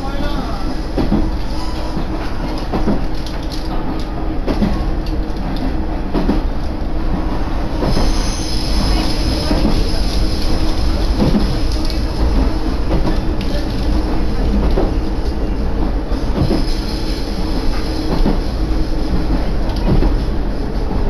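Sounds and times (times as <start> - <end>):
engine and wheels rumbling: 0.0 - 21.0.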